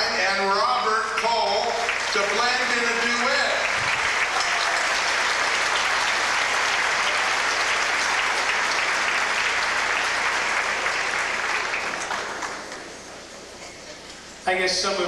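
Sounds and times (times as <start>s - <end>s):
audience applauding: 1.1s - 13.3s.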